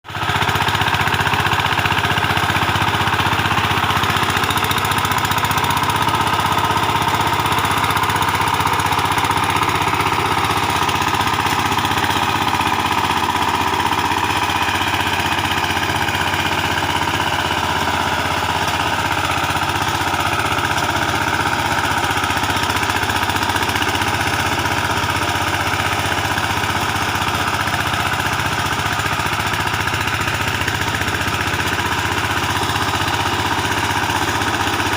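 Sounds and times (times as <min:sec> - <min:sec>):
diesel engine knocking steadily: 0:00.0 - 0:34.9.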